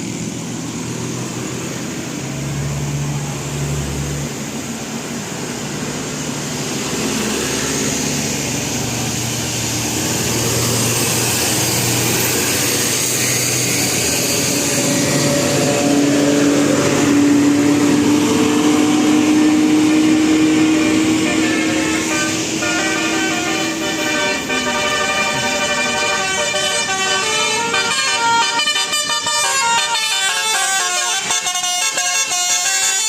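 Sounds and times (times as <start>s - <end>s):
vehicle engine passing: 0.0s - 31.5s.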